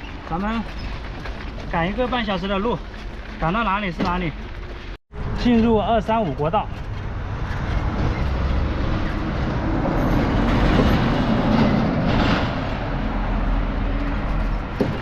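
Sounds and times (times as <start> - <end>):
wind and tyre rumble: 0.0 - 15.0.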